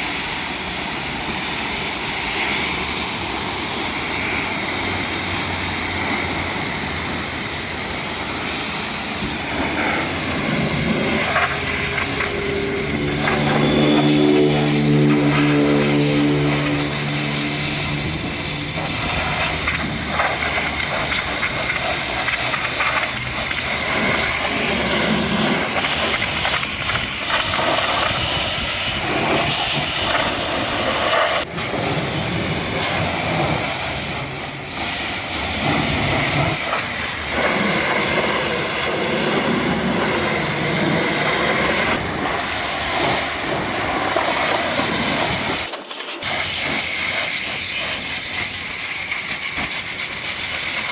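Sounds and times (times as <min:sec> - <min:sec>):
pressure washer spray hissing: 0:00.0 - 0:50.9.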